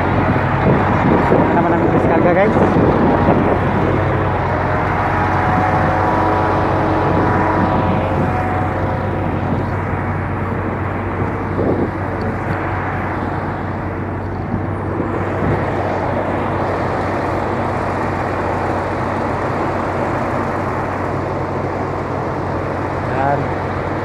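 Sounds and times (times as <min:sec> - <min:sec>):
diesel truck engines droning: 0:00.0 - 0:24.0.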